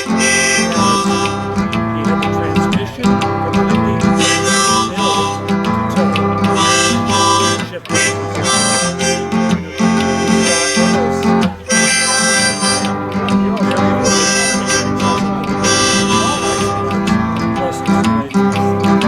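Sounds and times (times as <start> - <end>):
acoustic guitar strumming: 0.0 - 19.0
harmonica: 0.0 - 19.0.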